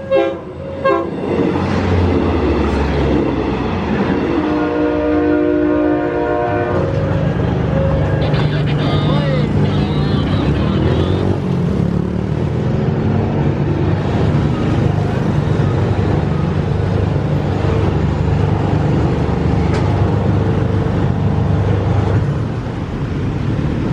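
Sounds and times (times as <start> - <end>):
diesel train engine rumbling: 0.0 - 23.9.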